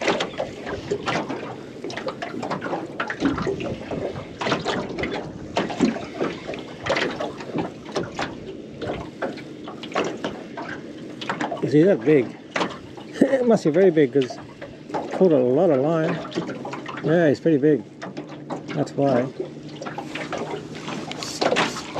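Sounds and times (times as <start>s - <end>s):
water splashing and trickling: 0.0s - 21.9s.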